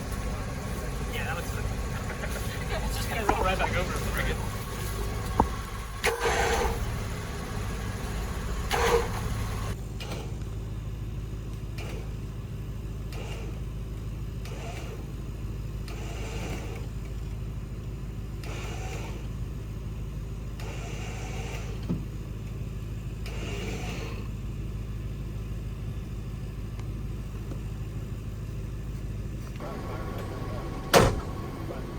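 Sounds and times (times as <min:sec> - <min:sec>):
vehicle engine idling: 0:00.0 - 0:31.9.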